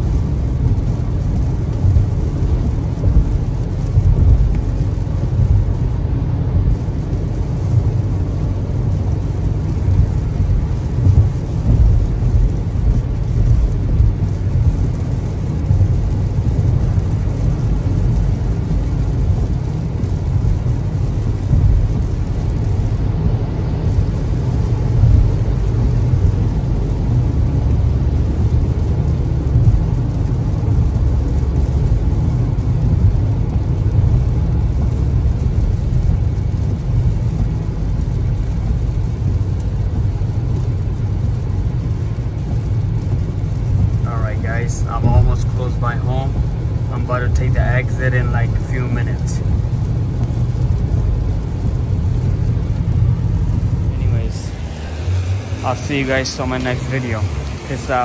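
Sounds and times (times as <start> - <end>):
rain: 0.0 - 58.0
road and engine rumble: 0.0 - 58.0
tyres hissing on wet road: 0.0 - 58.0.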